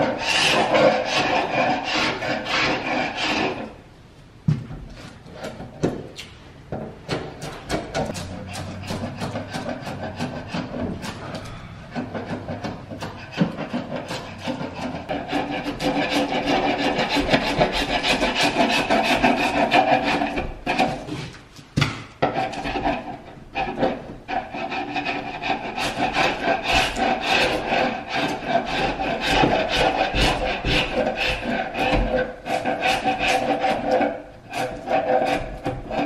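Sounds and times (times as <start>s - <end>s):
chisel scraping paint off wood: 0.0s - 3.7s, 6.8s - 21.4s, 22.2s - 36.0s.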